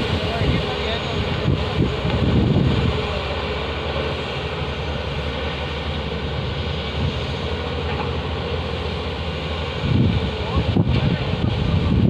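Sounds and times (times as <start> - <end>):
heavy diesel engines droning: 0.0 - 12.0.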